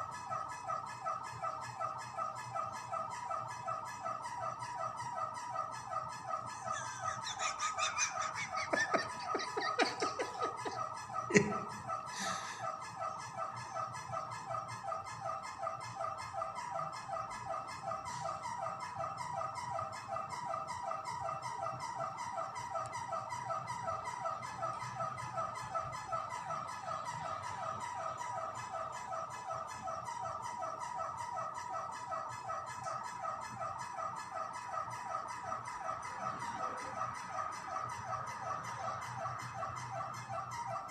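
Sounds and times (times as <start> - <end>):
electric fan squeaking: 0.0 - 40.9.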